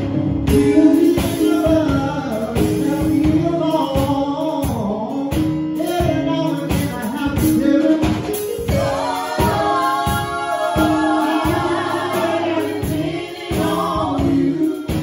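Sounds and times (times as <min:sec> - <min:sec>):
gospel song with singing: 0:00.0 - 0:15.0.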